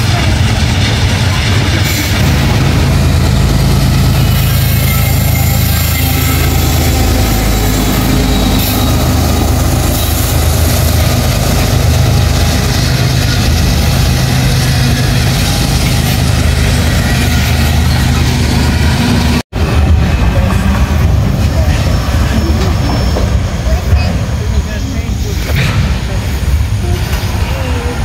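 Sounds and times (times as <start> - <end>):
diesel locomotive engine: 0.0 - 28.0
freight cars rumbling: 0.0 - 28.0.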